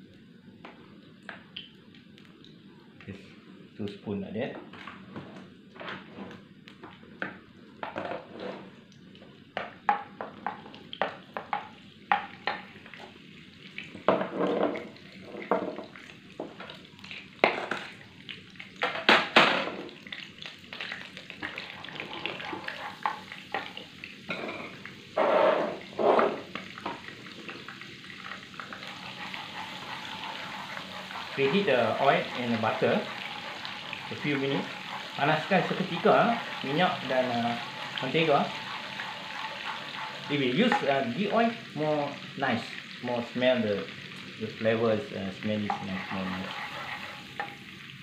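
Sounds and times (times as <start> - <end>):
butter and oil sizzling: 8.6 - 48.0.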